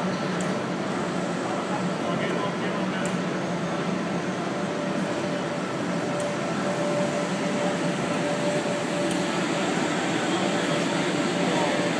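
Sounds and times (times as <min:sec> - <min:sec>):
exhibition hall hum: 0:00.0 - 0:11.9.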